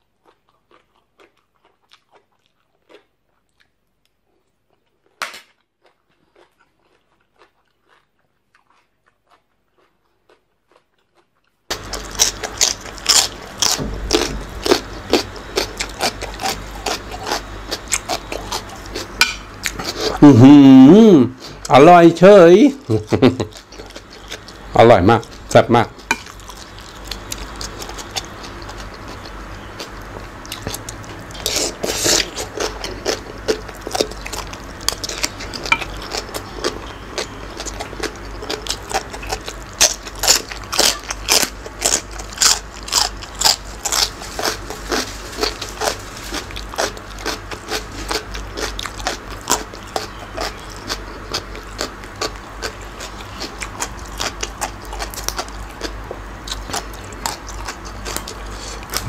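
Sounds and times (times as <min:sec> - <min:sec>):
wet chewing and crunching: 0:00.0 - 0:59.0.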